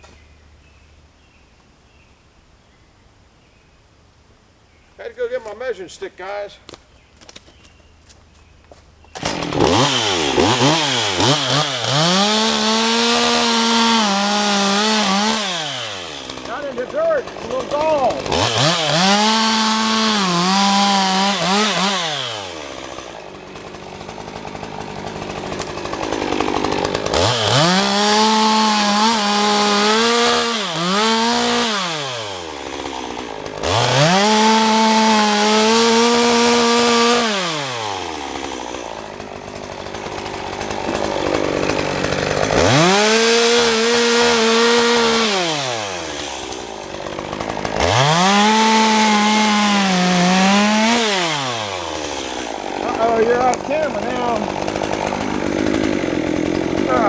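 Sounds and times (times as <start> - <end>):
chainsaw idling: 5.0 - 6.8, 9.0 - 57.0
chainsaw cutting wood: 5.0 - 57.0.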